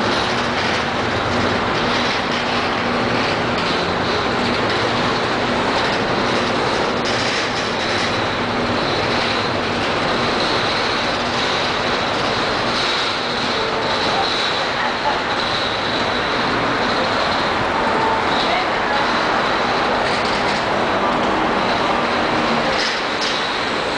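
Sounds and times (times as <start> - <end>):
train wheels clattering on rails: 0.0 - 23.9.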